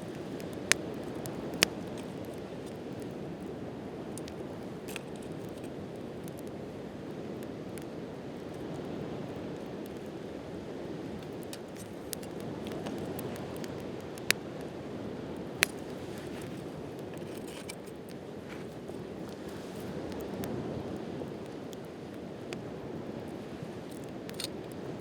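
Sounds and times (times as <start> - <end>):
campfire crackling: 0.0 - 25.0
loud snaps of fire: 0.0 - 25.0.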